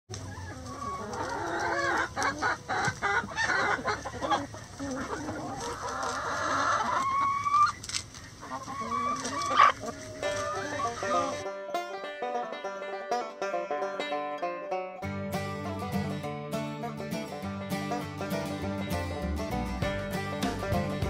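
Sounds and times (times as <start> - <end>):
chickens clucking: 0.1 - 14.4, 16.8 - 21.0.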